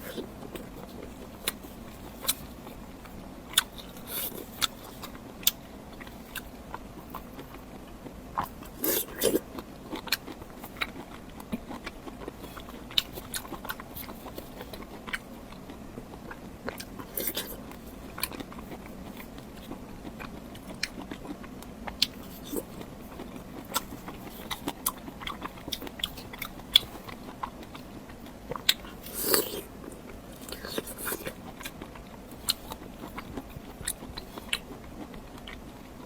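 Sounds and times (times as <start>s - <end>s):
chewing crunchy food: 0.0s - 36.0s.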